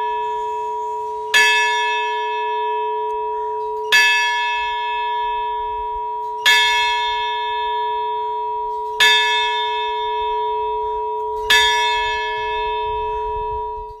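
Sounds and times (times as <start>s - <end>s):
large bell ringing: 0.0s - 14.0s.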